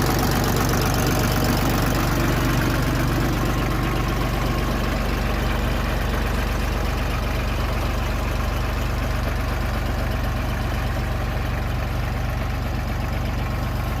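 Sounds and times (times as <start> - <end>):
vehicle engine running steadily: 0.0 - 14.0.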